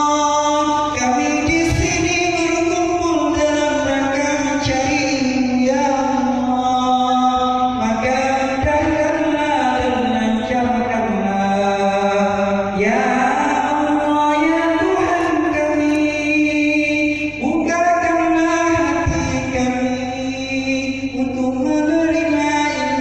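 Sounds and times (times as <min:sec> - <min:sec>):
man chanting a prayer: 0:00.0 - 0:23.0.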